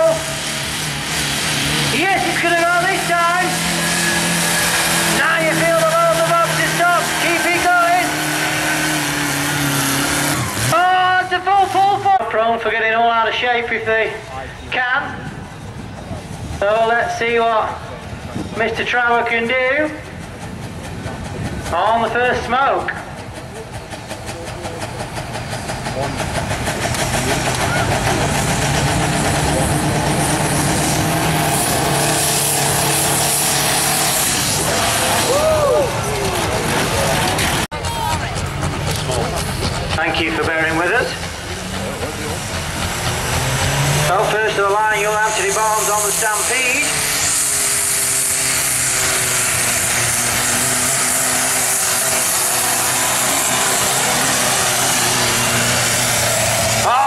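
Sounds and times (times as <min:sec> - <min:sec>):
rushing noise: 0:00.0 - 0:12.2, 0:14.1 - 0:57.0
diesel engine under load: 0:00.0 - 0:57.0.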